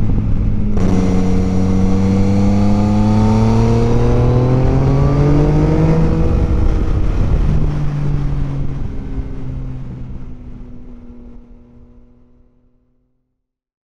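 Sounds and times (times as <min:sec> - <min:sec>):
wind rush on helmet mic: 0:00.0 - 0:12.0
motorcycle engine accelerating: 0:00.0 - 0:12.7.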